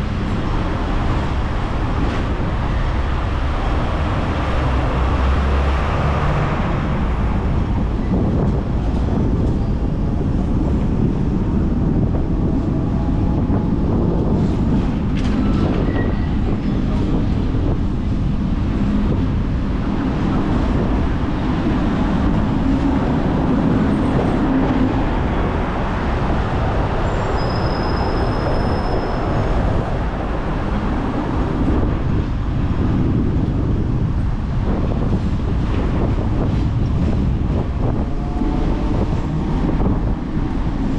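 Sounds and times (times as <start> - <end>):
tram wheels rumbling on rails: 0.0 - 40.9.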